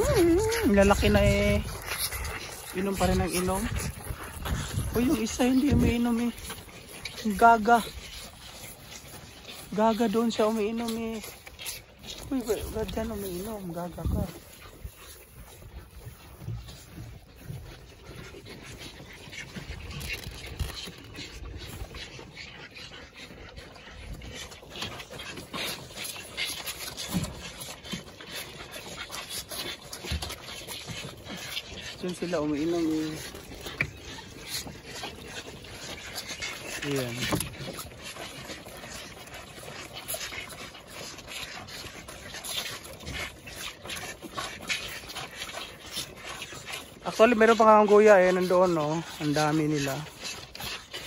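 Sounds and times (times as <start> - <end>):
calves sucking and slurping milk: 0.0 - 51.0.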